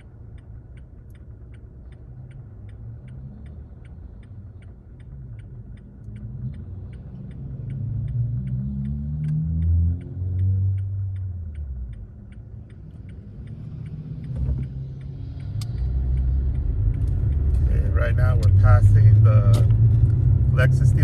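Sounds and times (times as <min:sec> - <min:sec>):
car engine from inside cabin: 0:00.0 - 0:21.0
turn signal clicking: 0:00.0 - 0:21.0.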